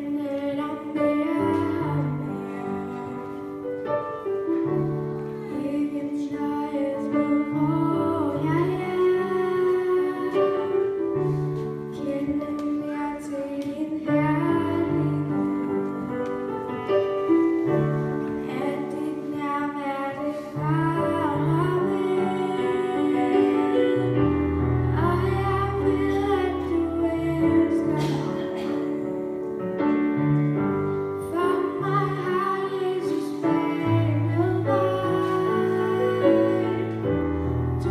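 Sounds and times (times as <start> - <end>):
girl singing a hymn: 0.0 - 29.5, 30.5 - 37.9.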